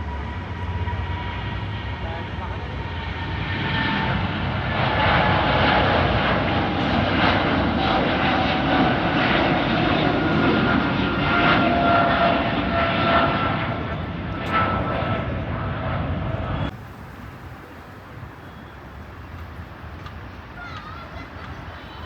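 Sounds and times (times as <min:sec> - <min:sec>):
jet engines passing: 0:00.0 - 0:22.0.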